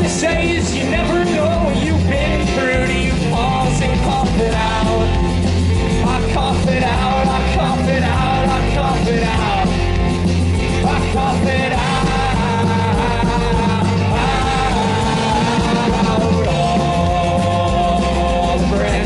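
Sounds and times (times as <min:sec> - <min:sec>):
drums: 0:00.0 - 0:19.0
electric and acoustic guitars: 0:00.0 - 0:19.0
live rock band: 0:00.0 - 0:19.0
voices singing: 0:00.0 - 0:19.0.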